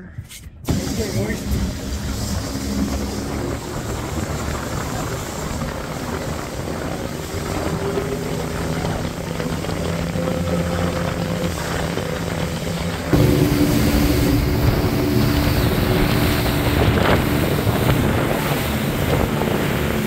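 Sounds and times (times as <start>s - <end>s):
rushing wind: 0.0s - 20.0s
water noise: 0.6s - 20.0s
boat engine droning: 0.7s - 20.0s.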